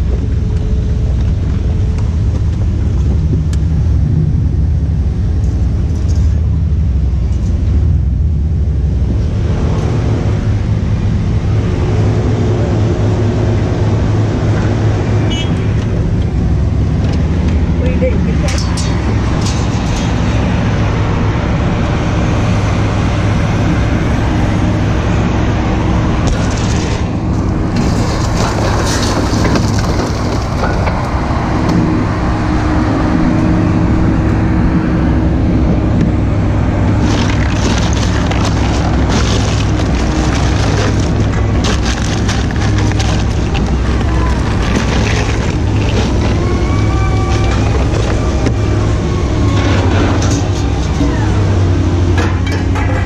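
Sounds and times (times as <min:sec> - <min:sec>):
road noise: 0:00.0 - 0:53.0
vehicle engine droning: 0:00.0 - 0:53.0.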